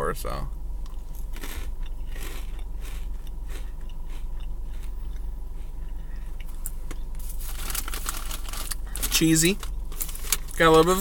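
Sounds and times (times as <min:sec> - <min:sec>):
person chewing crunchy snacks: 0:00.8 - 0:11.0.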